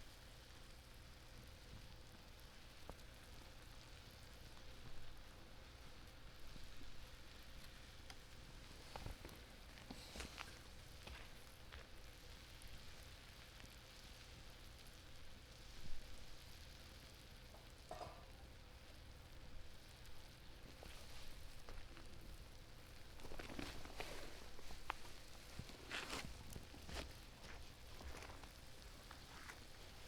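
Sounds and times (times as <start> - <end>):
faint sizzle of simmering food: 0.0 - 30.0.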